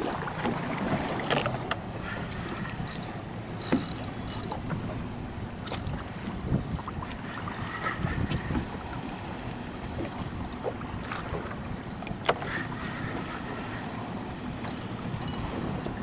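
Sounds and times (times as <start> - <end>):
boat engine running: 0.0 - 16.0
water noise: 0.0 - 16.0
wind: 0.0 - 16.0.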